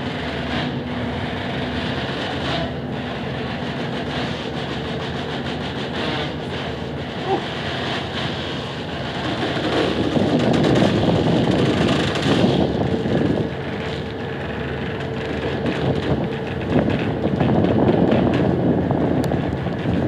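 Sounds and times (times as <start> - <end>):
wind over microphone: 0.0 - 20.0.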